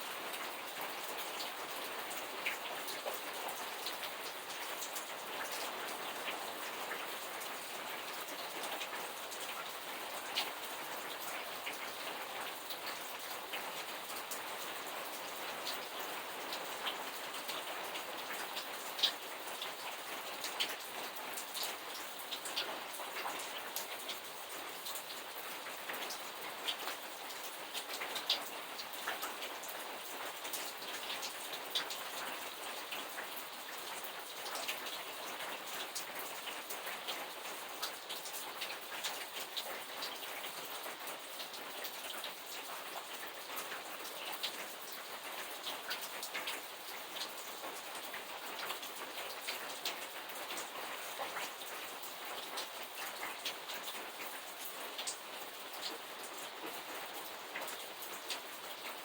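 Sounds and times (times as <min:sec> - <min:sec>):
raindrops ticking on hard surface: 0:00.0 - 0:59.0
steady rain hiss: 0:00.0 - 0:59.0.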